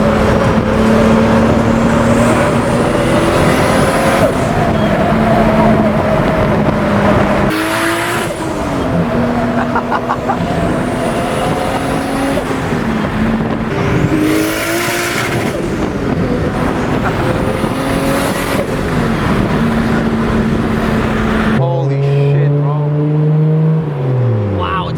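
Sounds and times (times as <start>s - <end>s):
car engine accelerating and shifting: 0.0s - 24.9s.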